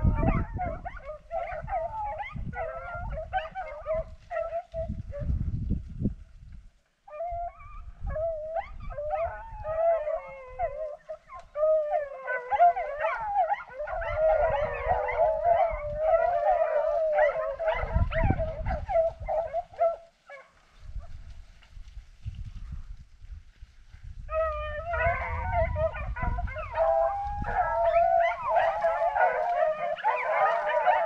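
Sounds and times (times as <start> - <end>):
dogs baying and howling: 0.0 - 5.4, 7.1 - 21.2, 24.3 - 31.0.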